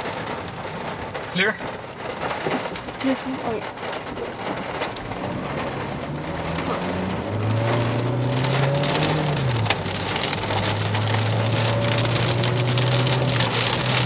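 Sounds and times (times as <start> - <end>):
hail and rain on car roof: 0.0 - 14.0.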